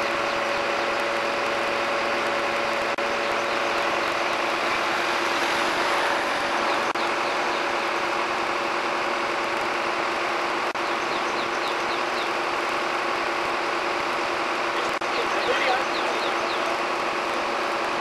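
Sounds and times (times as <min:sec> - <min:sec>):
truck engine and hydraulics running: 0:00.0 - 0:18.0.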